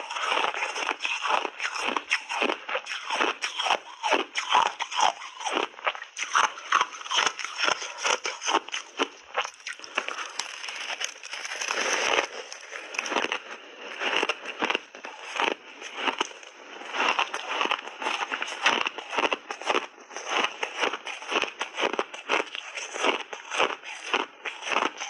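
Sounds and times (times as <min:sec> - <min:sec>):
person crunching ice: 0:00.0 - 0:25.0.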